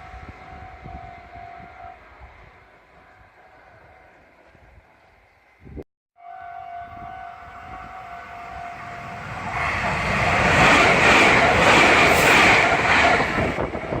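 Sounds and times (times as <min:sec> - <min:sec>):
train rushing past: 0:00.0 - 0:05.7, 0:06.7 - 0:14.0.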